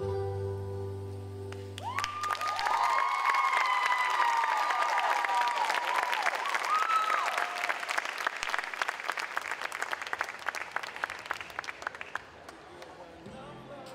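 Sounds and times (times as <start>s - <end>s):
audience applauding: 1.5s - 13.2s
audience cheering: 1.8s - 13.3s.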